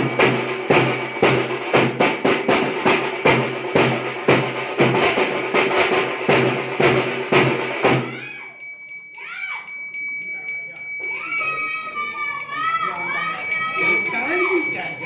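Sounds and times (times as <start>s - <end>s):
drums beating fast: 0.0s - 15.0s.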